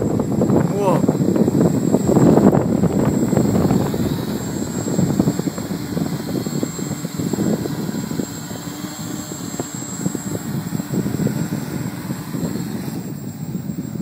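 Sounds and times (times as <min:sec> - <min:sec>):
drone propellers whirring: 0:00.0 - 0:14.0
wind buffeting microphone: 0:00.0 - 0:14.0.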